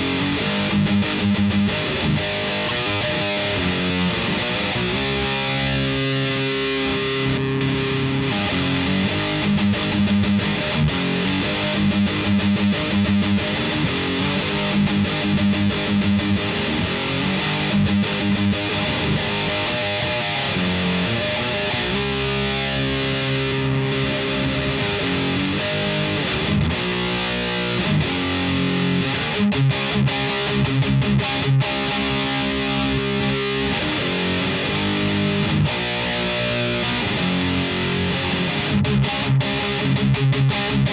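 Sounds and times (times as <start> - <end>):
distorted electric guitar riffs: 0.0 - 40.9.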